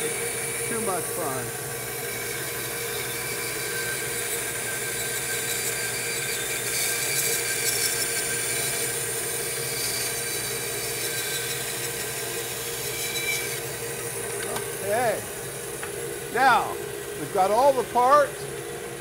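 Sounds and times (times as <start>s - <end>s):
saw blade cutting wood: 0.0s - 18.3s
bandsaw motor hum: 0.0s - 19.0s.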